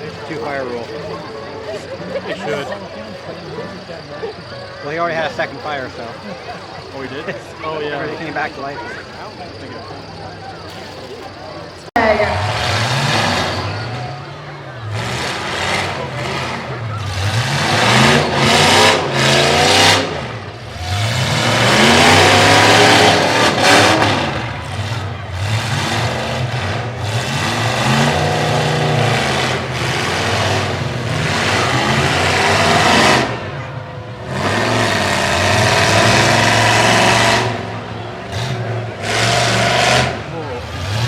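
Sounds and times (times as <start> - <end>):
truck engines revving hard: 0.0 - 41.0.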